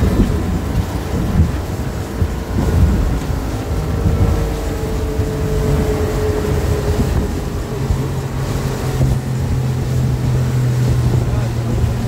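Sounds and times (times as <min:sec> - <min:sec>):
outboard motor running: 0:00.0 - 0:12.0
wake rushing: 0:00.0 - 0:12.0
wind buffeting microphone: 0:00.0 - 0:12.0.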